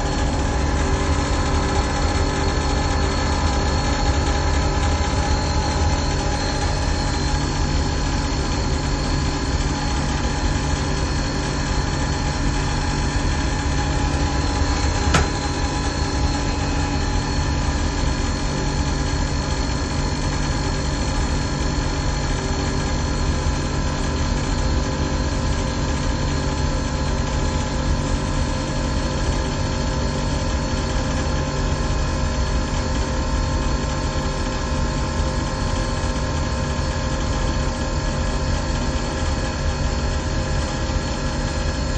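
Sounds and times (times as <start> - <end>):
hvac machinery humming: 0.0 - 41.9.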